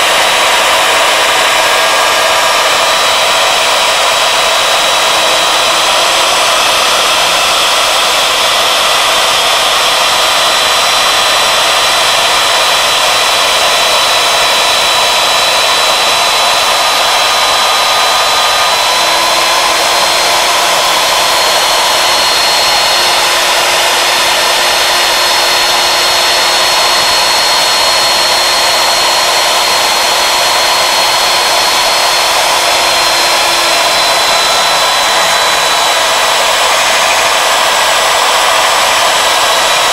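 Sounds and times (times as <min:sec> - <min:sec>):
router cutting wood: 0:00.0 - 0:39.9
router motor whine: 0:00.0 - 0:39.9.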